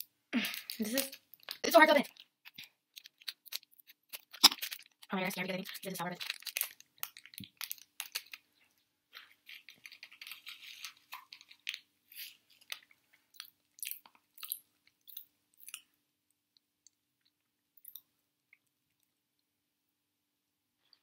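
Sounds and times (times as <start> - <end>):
popping candy crunching in mouth: 0.4 - 16.0, 16.8 - 19.1.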